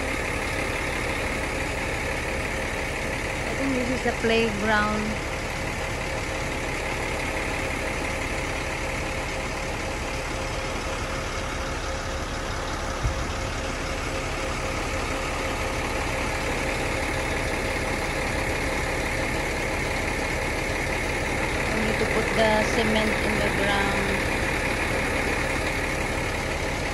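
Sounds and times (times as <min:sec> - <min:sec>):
concrete pump running: 0:00.0 - 0:26.9.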